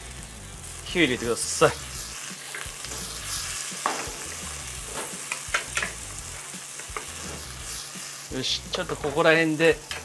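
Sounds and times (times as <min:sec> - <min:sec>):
vegetables sizzling in frying pan: 0:00.0 - 0:10.0.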